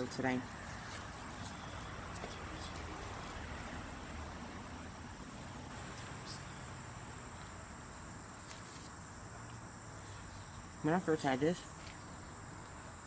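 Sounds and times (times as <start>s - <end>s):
faint low outdoor rumble: 0.0s - 13.0s
insects trilling: 0.0s - 13.0s.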